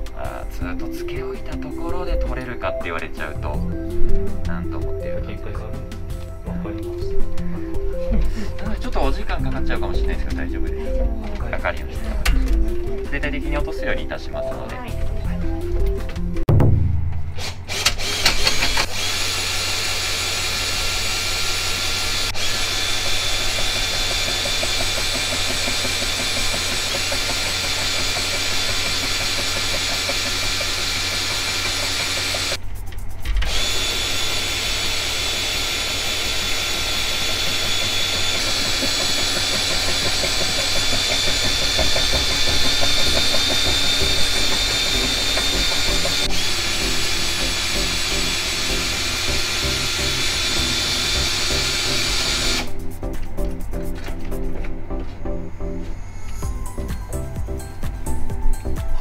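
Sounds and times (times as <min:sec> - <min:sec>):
drain cleaner motor whining: 0:00.0 - 0:16.4, 0:17.4 - 0:57.4.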